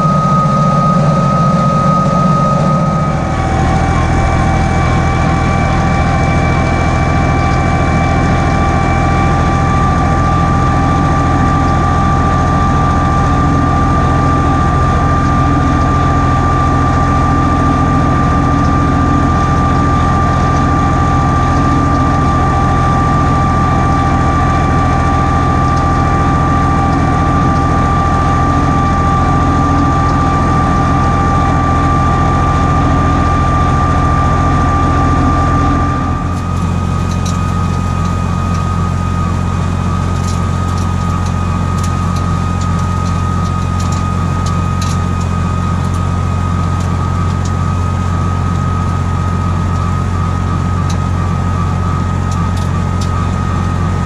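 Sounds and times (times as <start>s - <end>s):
diesel tractor engine running: 0.0s - 54.0s
rotary cutter high whine: 0.0s - 54.0s.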